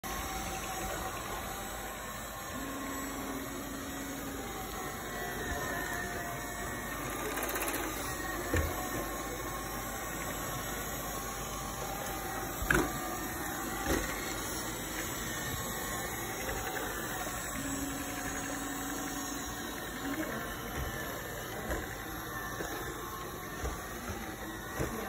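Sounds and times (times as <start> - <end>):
robot vacuum running: 0.0 - 25.0.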